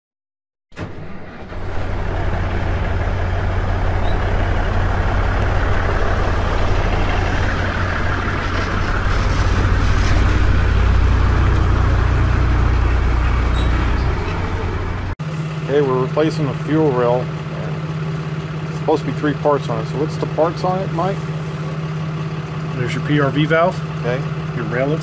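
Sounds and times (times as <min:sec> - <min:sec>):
diesel engine running: 0:00.8 - 0:25.0.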